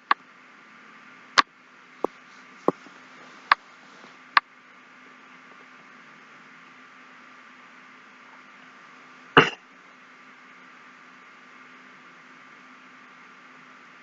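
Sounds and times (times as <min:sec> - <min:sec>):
faint steady hiss and hum: 0:00.0 - 0:14.0.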